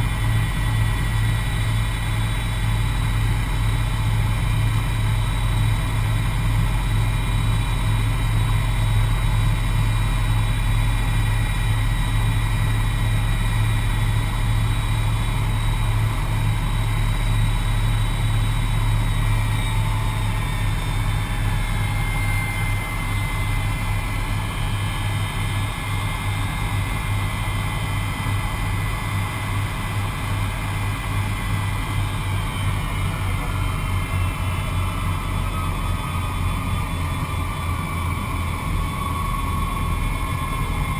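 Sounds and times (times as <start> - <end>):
high engine whines: 0.0 - 40.9
jet engines droning in cabin: 0.0 - 40.9.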